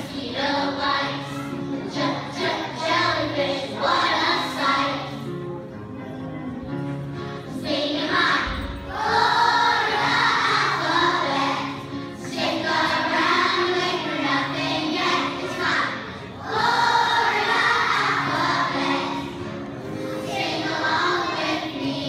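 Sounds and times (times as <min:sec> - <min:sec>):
children's choir singing: 0:00.0 - 0:05.4, 0:07.3 - 0:22.0
musical accompaniment: 0:00.0 - 0:22.0.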